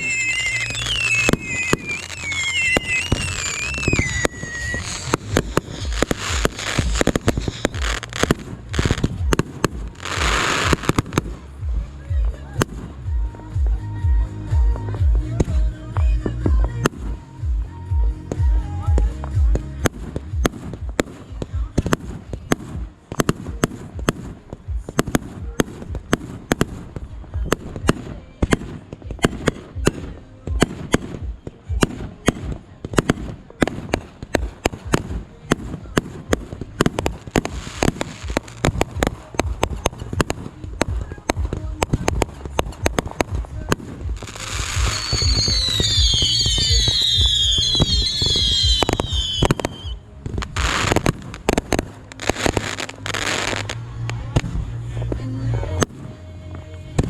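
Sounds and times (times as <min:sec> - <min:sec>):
whistling fireworks: 0:00.0 - 0:13.2, 0:18.4 - 0:54.5
fireworks bangs and crackles: 0:00.0 - 0:57.0.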